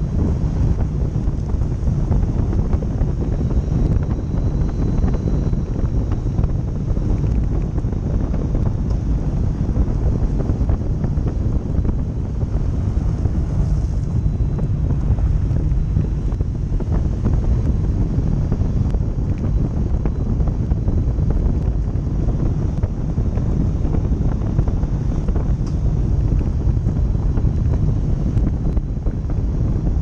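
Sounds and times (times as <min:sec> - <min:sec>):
car driving on dirt track: 0:00.0 - 0:30.0.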